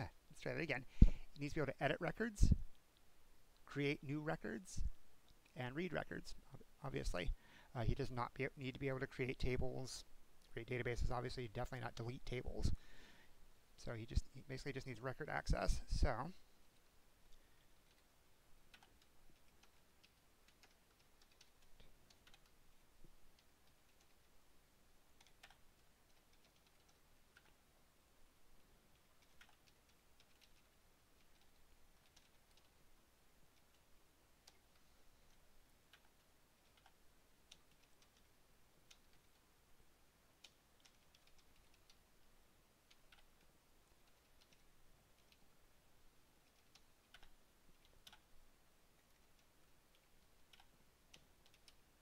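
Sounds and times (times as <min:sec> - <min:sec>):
faint keyboard typing: 0:00.4 - 0:12.9, 0:13.8 - 0:52.0.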